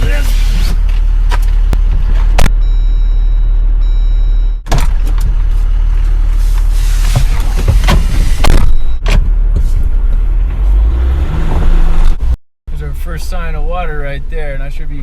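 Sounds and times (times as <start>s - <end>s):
vehicle driving low rumble: 0.0s - 15.0s.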